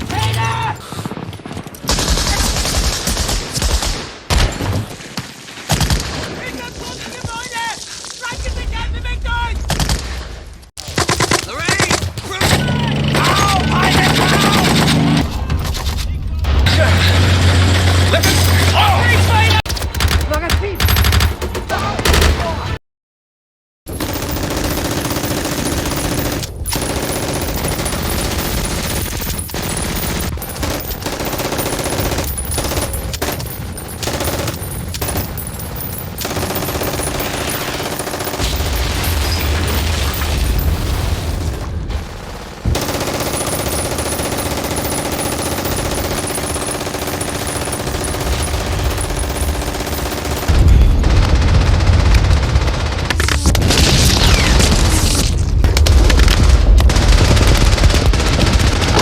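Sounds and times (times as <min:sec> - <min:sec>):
machine-gun and rifle fire: 0:01.8 - 0:06.4, 0:10.8 - 0:15.4, 0:16.5 - 0:22.6, 0:23.9 - 0:59.0.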